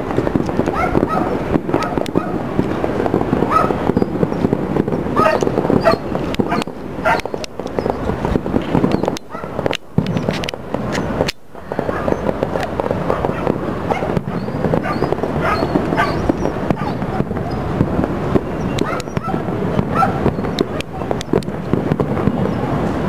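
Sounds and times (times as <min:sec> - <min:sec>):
fireworks crackle and rumble: 0:00.0 - 0:23.0
sharp firework bangs: 0:00.0 - 0:23.0.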